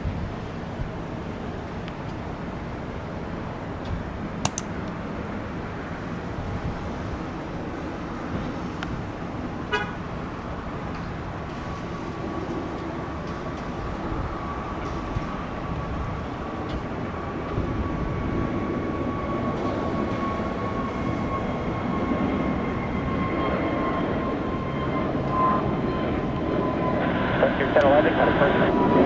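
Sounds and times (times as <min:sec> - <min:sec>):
jet engines whining and rumbling: 0:00.0 - 0:29.0.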